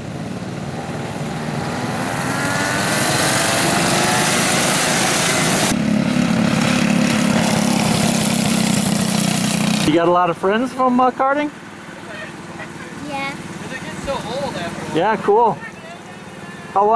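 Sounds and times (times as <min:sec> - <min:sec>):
kart engine running steadily: 0:00.0 - 0:16.9
kart engines revving: 0:00.0 - 0:16.9.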